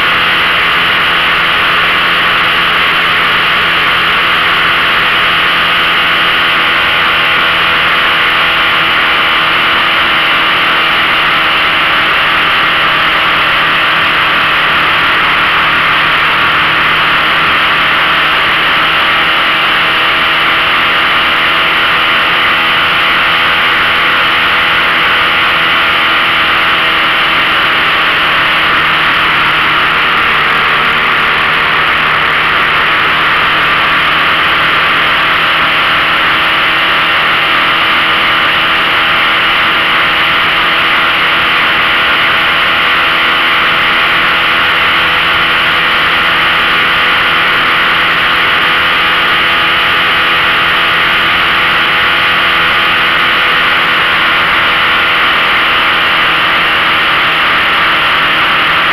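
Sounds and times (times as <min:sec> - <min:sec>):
outboard motor running: 0:00.0 - 0:58.9.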